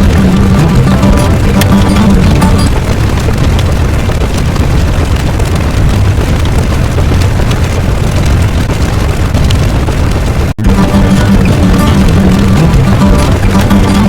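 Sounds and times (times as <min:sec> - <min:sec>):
loud low rumble: 0:00.0 - 0:14.0.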